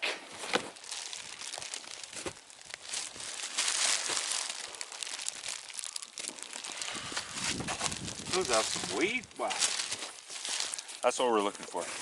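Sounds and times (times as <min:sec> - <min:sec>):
crinkling handling noise: 0:00.0 - 0:12.0.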